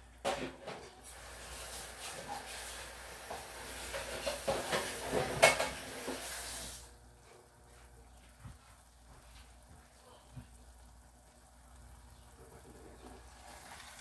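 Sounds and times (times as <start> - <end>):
food sizzling in a frying pan: 0.4 - 7.0, 8.7 - 14.0.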